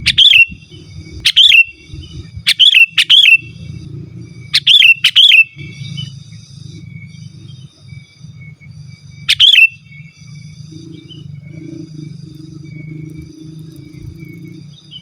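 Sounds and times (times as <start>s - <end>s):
bulbul sharp calls: 0.0s - 15.0s
faint bird chirps: 0.0s - 15.0s.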